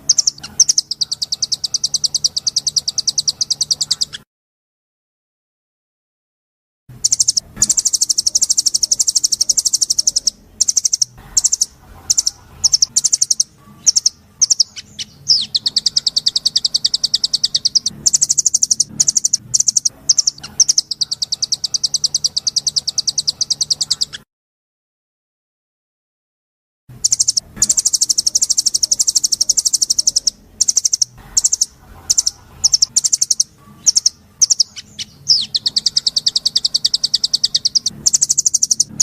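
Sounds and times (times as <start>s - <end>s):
songbird trilling: 0.0s - 4.2s, 7.0s - 24.2s, 27.0s - 39.0s.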